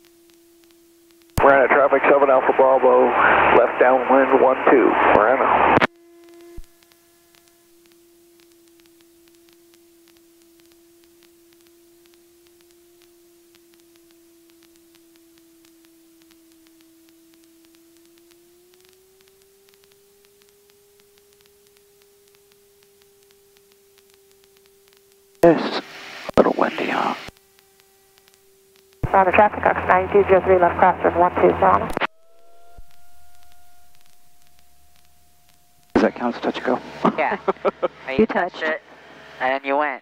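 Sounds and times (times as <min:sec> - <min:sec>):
faint electrical whine: 0:00.0 - 0:40.0
light static crackle: 0:00.0 - 0:40.0.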